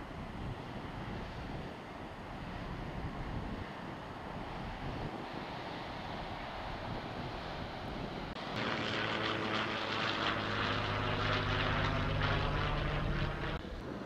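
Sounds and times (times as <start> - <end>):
propeller plane droning overhead: 0.0 - 14.0
wind noise on microphone: 0.0 - 14.0.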